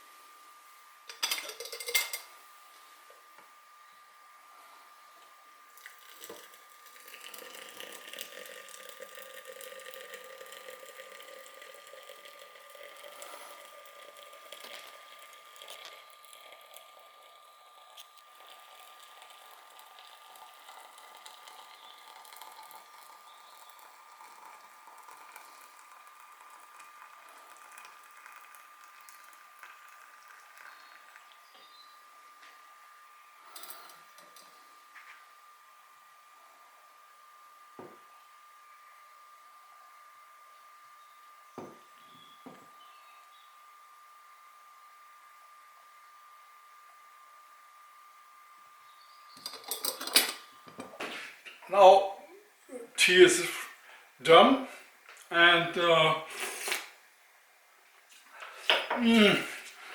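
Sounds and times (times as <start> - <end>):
kettle water hissing: 0.0 - 59.9.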